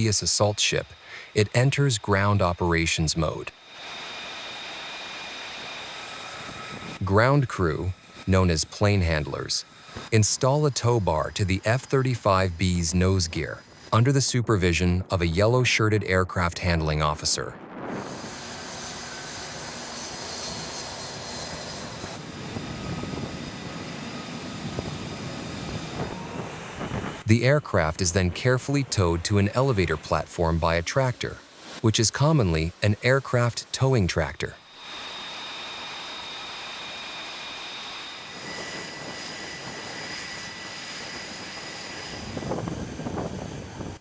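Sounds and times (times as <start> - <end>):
jet engine roar with whine: 0.0 - 14.1, 16.3 - 44.0.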